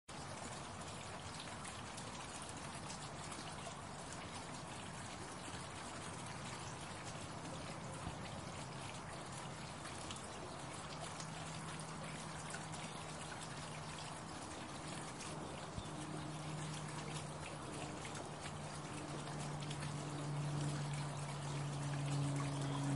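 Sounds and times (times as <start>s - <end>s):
fountain water splashing: 0.1s - 22.9s
low street hum: 0.1s - 22.9s.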